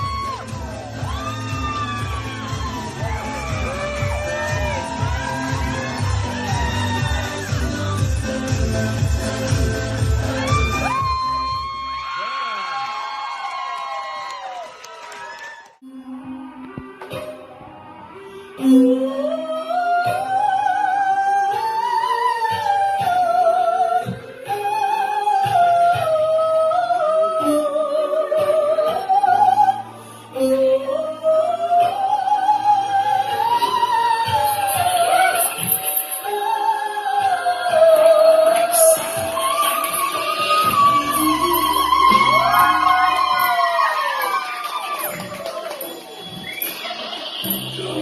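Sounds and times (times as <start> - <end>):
operatic singing with vibrato: 0.0 - 11.9, 15.8 - 45.3
musical accompaniment: 0.0 - 12.3, 15.9 - 48.0.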